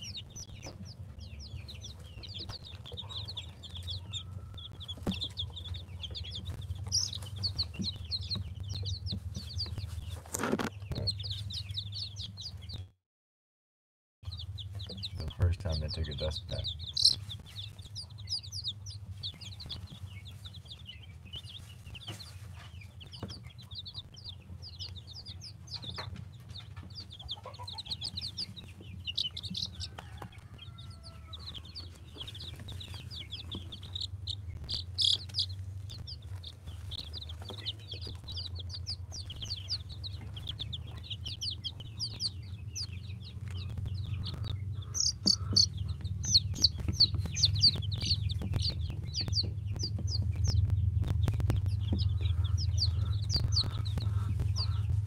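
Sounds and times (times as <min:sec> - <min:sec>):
steady low hum: 0:00.0 - 0:12.7, 0:14.3 - 0:55.0
chicks peeping: 0:00.0 - 0:12.9, 0:14.2 - 0:55.0.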